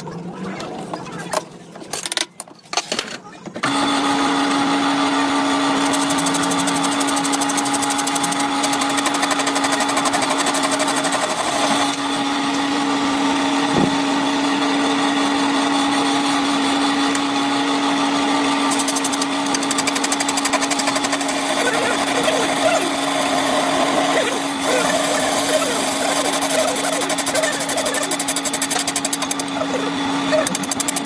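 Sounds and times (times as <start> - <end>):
power tool motor rasping: 3.6 - 31.0.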